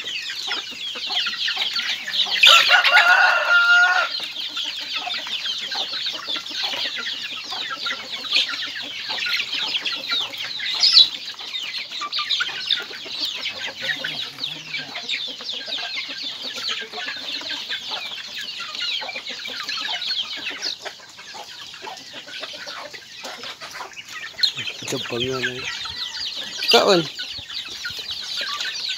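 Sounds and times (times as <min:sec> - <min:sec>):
chicks peeping: 0:00.0 - 0:28.9
hens clucking: 0:00.0 - 0:28.9
chicken squawk: 0:00.5 - 0:28.9.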